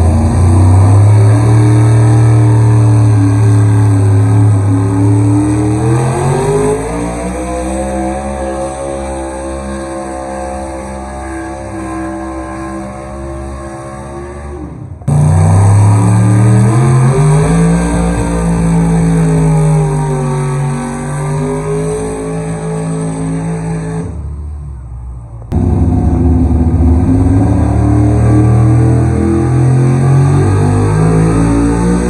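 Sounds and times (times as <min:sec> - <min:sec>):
truck engines revving under load: 0:00.0 - 0:32.0.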